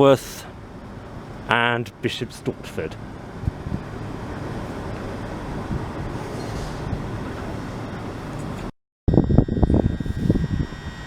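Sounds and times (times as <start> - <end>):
electric train rumbling at platform: 0.0 - 11.0.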